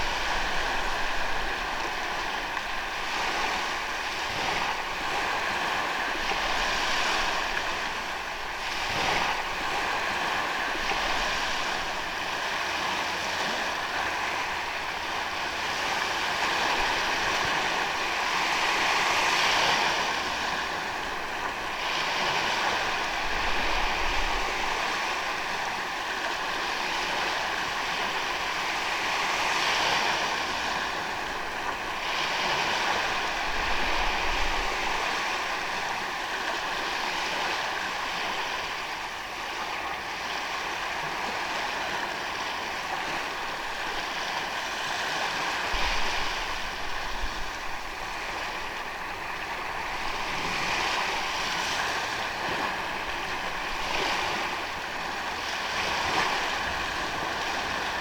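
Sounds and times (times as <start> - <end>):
ocean waves on sandy beach: 0.0 - 58.0.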